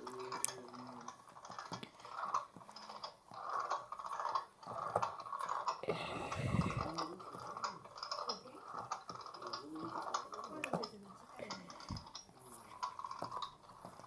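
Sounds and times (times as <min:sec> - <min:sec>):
mechanical clicking and rattling: 0:00.0 - 0:14.0
washing machine churning: 0:00.0 - 0:14.0.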